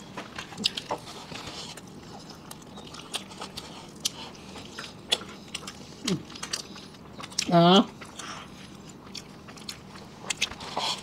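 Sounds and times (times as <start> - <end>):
people chewing burger: 0.0 - 11.0.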